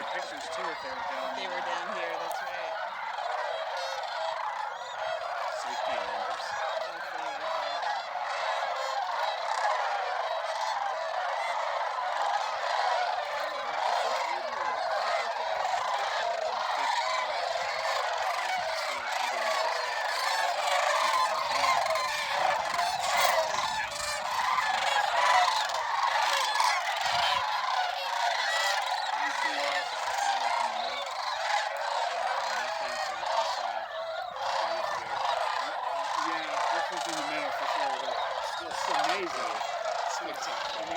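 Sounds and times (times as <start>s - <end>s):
geese and cranes honking: 0.0s - 40.9s.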